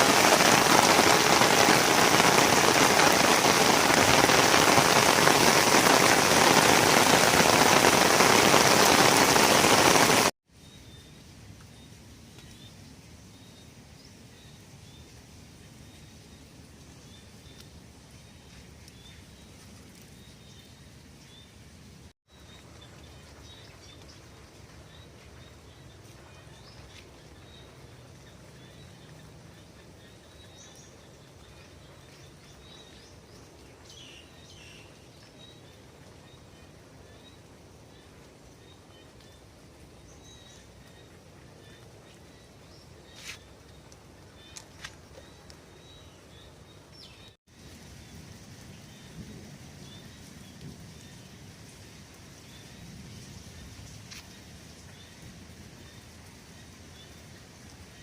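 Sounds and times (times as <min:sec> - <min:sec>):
outdoor background noise: 0:00.0 - 0:58.0.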